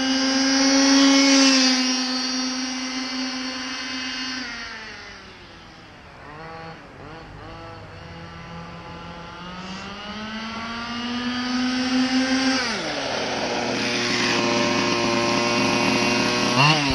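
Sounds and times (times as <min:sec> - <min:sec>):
rc buggy engine running: 0:00.0 - 0:16.9.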